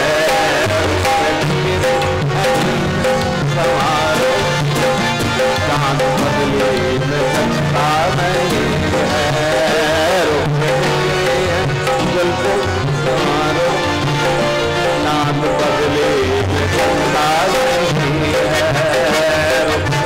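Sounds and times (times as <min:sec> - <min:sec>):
sustained melodic accompaniment: 0:00.0 - 0:20.0
tabla playing a steady rhythm: 0:00.0 - 0:20.0.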